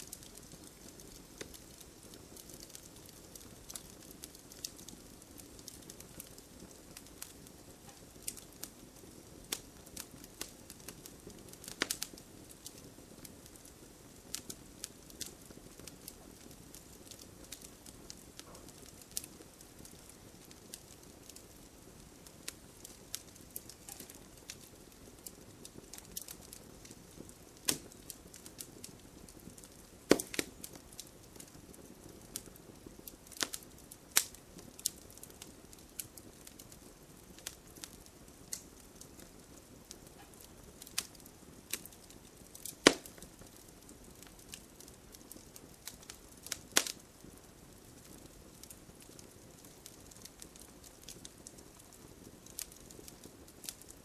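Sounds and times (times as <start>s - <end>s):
campfire burning: 0.0s - 54.0s
fire crackles and pops: 0.0s - 54.0s.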